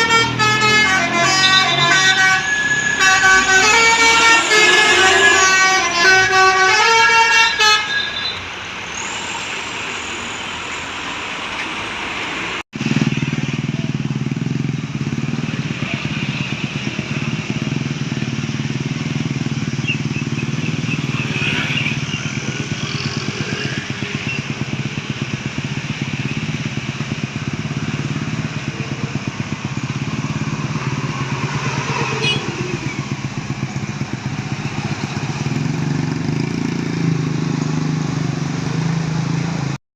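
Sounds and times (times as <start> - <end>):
vehicle engine running: 0.0 - 6.8, 12.8 - 39.6.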